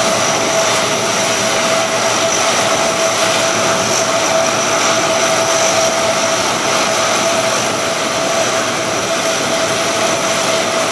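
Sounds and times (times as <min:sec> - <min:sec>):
turboprop engines running: 0:00.0 - 0:10.9.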